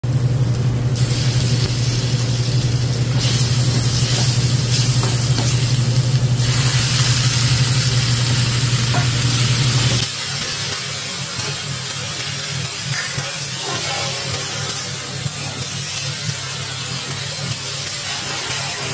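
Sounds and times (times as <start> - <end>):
steady low hum: 0.0 - 18.8
paste sizzling in a wok: 0.2 - 18.9.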